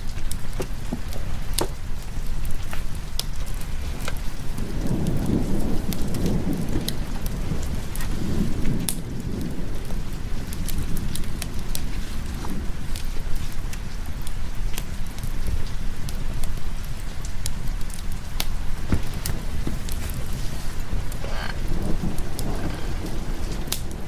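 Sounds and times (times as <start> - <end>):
steady rain: 0.0 - 24.0
thunder rumbling: 0.0 - 24.0
wood fire crackling: 0.0 - 24.0.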